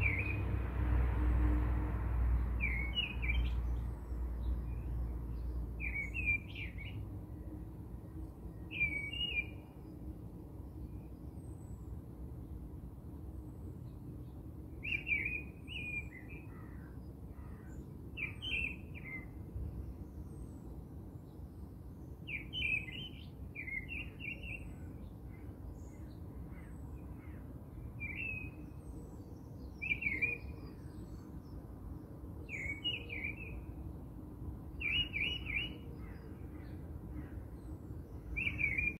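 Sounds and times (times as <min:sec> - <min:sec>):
small birds chirping: 0:00.0 - 0:00.5, 0:02.6 - 0:10.1, 0:13.7 - 0:21.4, 0:22.1 - 0:34.0, 0:34.7 - 0:39.0.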